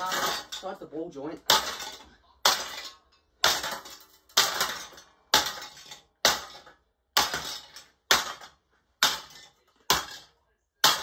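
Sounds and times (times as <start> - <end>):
ceiling fan being smashed: 0.0 - 0.8, 1.4 - 11.0.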